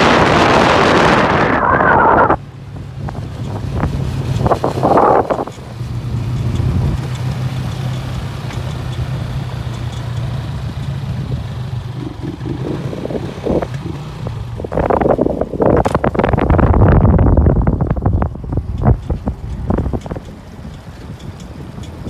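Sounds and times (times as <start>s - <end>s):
wind buffeting microphone: 0.0s - 8.3s, 10.6s - 22.0s.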